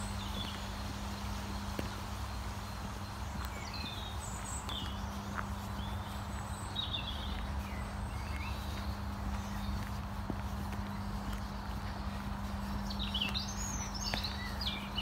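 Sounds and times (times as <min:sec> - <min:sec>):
footsteps on gravel: 0:00.0 - 0:15.0
steady low rumble: 0:00.0 - 0:15.0
bird chirps: 0:02.3 - 0:15.0.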